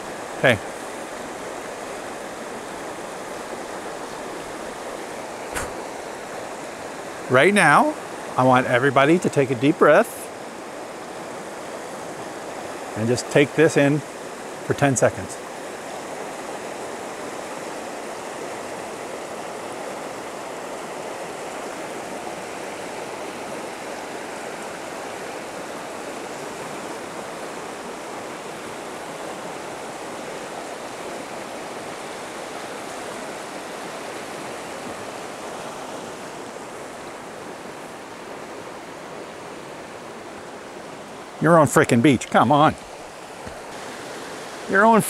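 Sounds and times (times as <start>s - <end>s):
river rushing over rocks: 0.0s - 45.0s.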